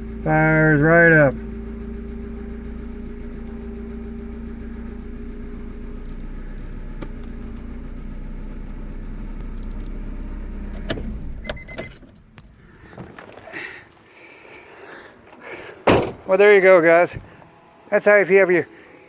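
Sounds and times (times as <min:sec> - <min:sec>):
car engine idling: 0:00.0 - 0:17.8.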